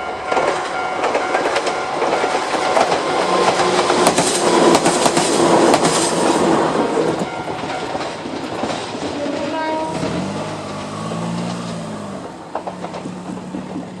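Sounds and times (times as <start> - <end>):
electric train wheel and track noise: 0.0 - 14.0.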